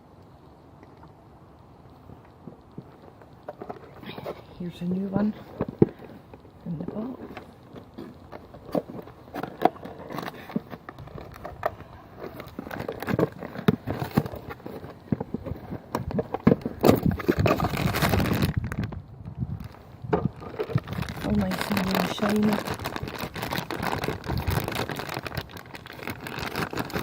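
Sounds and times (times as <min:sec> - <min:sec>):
small clicks and scrapes: 0:02.1 - 0:19.0, 0:19.6 - 0:27.0
packaging rustling and crackling: 0:02.4 - 0:27.0.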